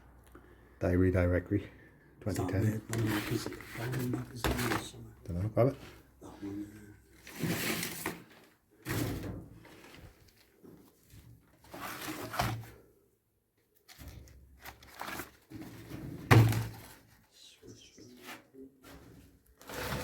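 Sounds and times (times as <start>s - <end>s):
objects being handled and moved: 2.3s - 13.0s, 13.6s - 20.0s.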